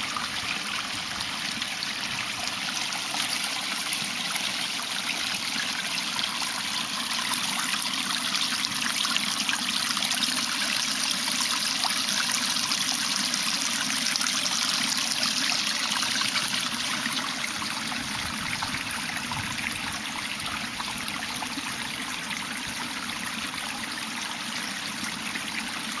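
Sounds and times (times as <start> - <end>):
water flowing into a pond: 0.0 - 26.0.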